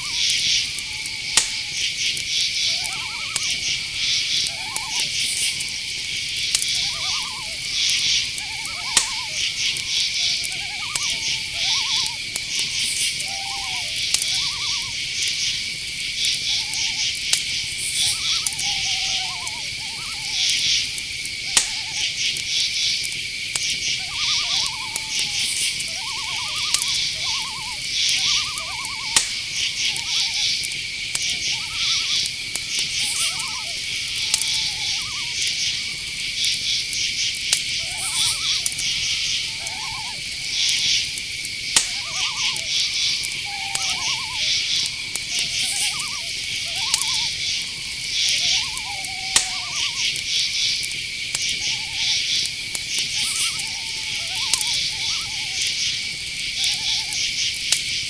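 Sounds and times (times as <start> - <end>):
short falling calls: 0.0 - 15.7, 16.3 - 22.7, 23.6 - 36.9, 37.7 - 50.8, 51.4 - 57.3
pulsed chirping: 0.0 - 22.4, 23.6 - 37.0, 37.6 - 57.3
crickets trilling: 0.0 - 58.0
sharp clicks: 0.1 - 13.3, 16.2 - 54.9.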